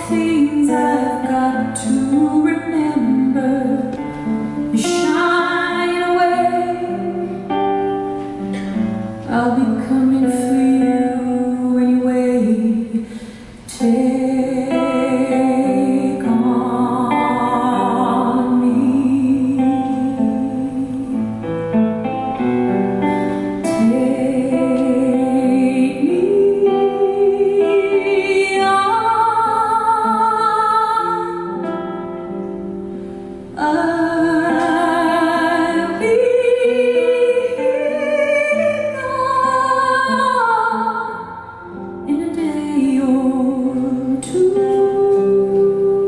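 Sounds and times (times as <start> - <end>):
woman singing with vibrato: 0.0 - 8.1, 9.2 - 21.5, 23.1 - 32.3, 33.5 - 46.0
soft acoustic guitar: 0.0 - 46.0.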